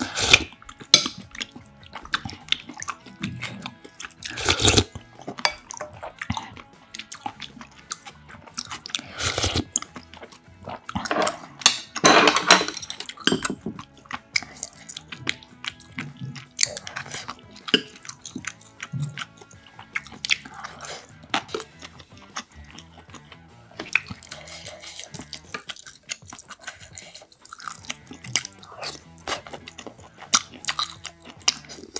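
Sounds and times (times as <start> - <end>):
soup slurping from spoon: 0.0 - 11.9, 13.1 - 23.2, 23.8 - 31.9
small mouth clicks: 0.0 - 12.0, 12.9 - 31.9
wet chewing: 0.0 - 31.9.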